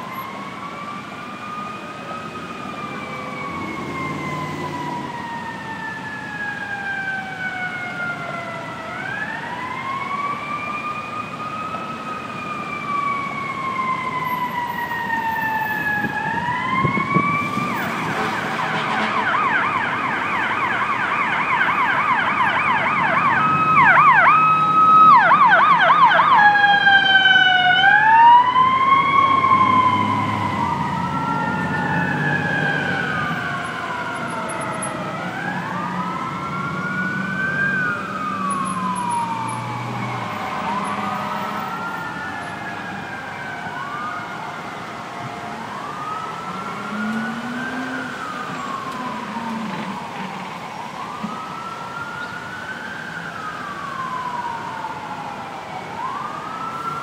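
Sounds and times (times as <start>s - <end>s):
city traffic: 0.0s - 57.0s
sirens wailing and yelping: 0.0s - 57.0s.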